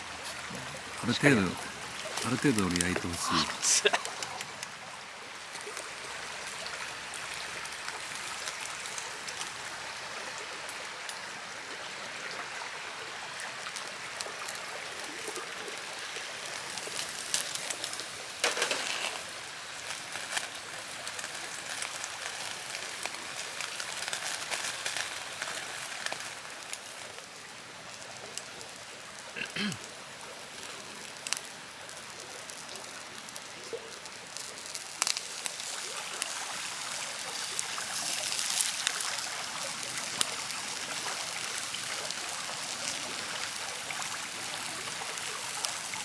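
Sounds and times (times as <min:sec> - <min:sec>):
campfire crackles and pops: 0:00.0 - 0:11.5, 0:12.6 - 0:46.0
meat sizzling on grill: 0:00.0 - 0:46.0.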